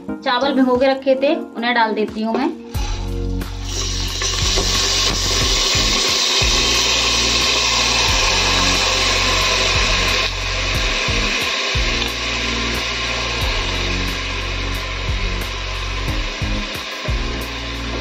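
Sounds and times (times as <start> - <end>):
rice sizzling in hot oil: 2.8 - 18.0.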